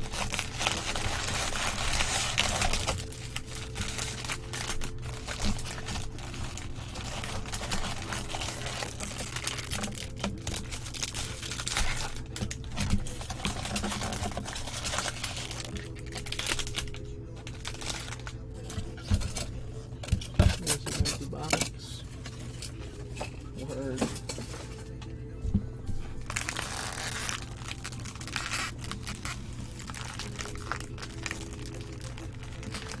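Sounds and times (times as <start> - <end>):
plastic shrink wrap crinkling: 0.0 - 23.3, 26.0 - 33.0.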